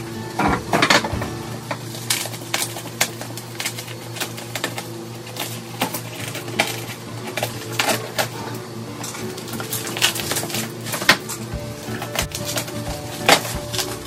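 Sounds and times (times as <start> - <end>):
plastic crinkling: 0.5 - 14.0
scissors cutting bubble wrap: 1.7 - 14.0.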